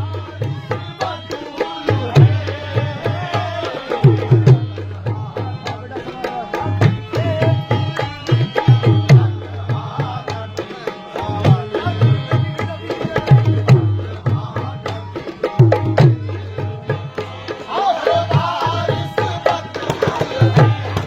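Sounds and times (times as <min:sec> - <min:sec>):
hand drum fast rhythm: 0:00.0 - 0:10.5, 0:11.2 - 0:21.0.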